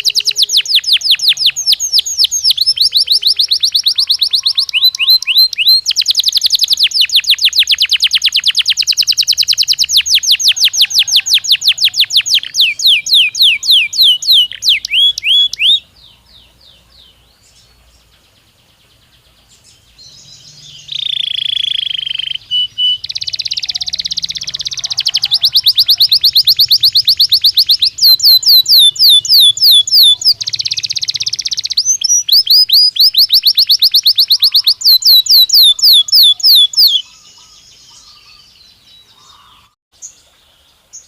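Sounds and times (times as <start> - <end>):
canary singing trills: 0.0 - 40.3.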